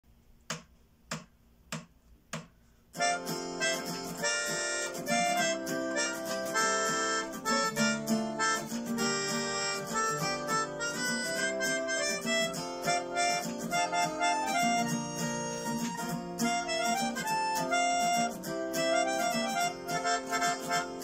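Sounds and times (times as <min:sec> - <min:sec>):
acoustic guitar strumming chords: 0:03.0 - 0:21.0
melodica playing melody: 0:03.0 - 0:21.0.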